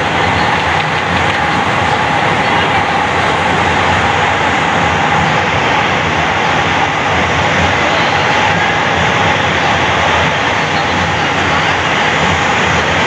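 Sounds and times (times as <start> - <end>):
light-rail train running: 0.0 - 13.0
train passing alongside: 0.0 - 13.0.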